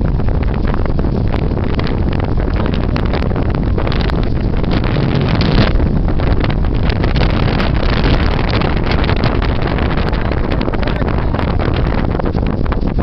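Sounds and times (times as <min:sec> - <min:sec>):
gale-force wind blowing: 0:00.0 - 0:13.0
wind buffeting microphone: 0:00.0 - 0:13.0.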